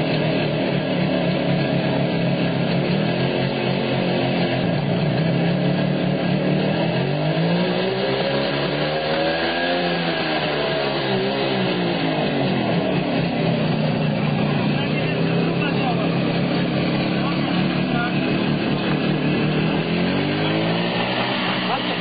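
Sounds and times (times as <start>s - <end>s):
rail draisine engine revving: 0.0s - 22.0s.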